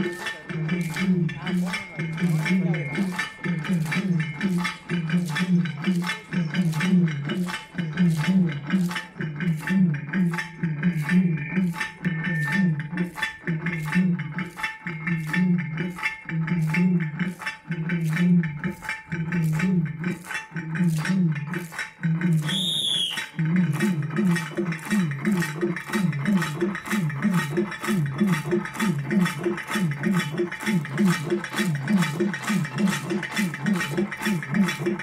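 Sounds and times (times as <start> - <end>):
low pulsing accompaniment: 0.0 - 35.0
rhythmic metallic jingling: 0.0 - 35.0.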